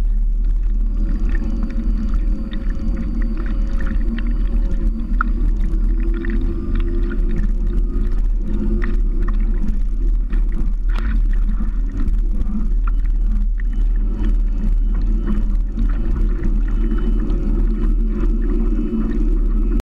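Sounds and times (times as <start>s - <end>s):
faint hum: 0.0s - 19.8s
low rumble: 0.0s - 19.8s
water splashing against hull: 0.0s - 19.8s.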